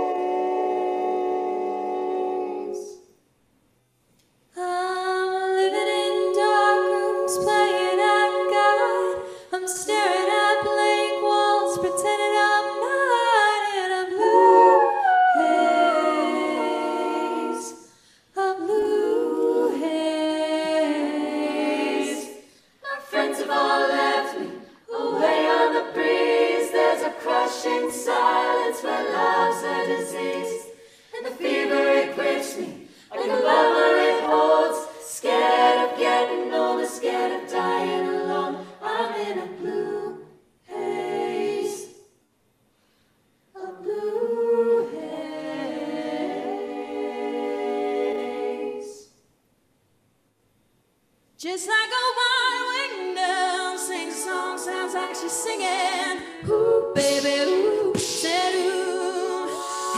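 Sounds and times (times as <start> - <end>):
women singing in close harmony: 0.0 - 3.1, 4.6 - 42.1, 43.5 - 49.2, 51.4 - 59.9.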